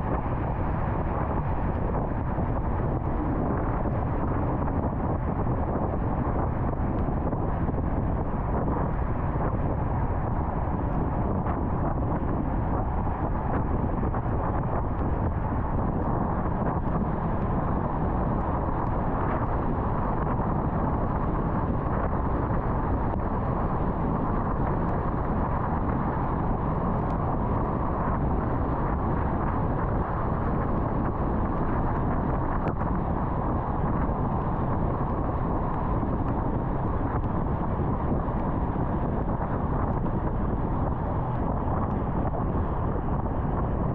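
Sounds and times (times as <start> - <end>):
car road and wind noise: 0.0 - 43.9.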